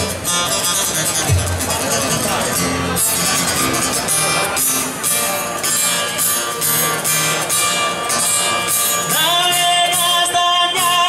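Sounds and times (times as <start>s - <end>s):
acoustic guitar strumming: 0.0s - 11.0s
live dance music: 0.0s - 11.0s.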